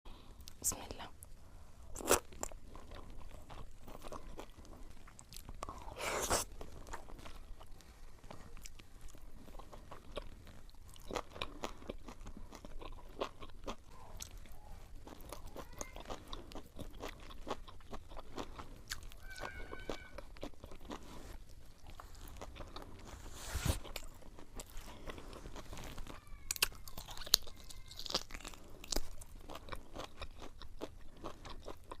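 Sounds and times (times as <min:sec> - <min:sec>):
person chewing crunchy food: 0:01.8 - 0:32.0.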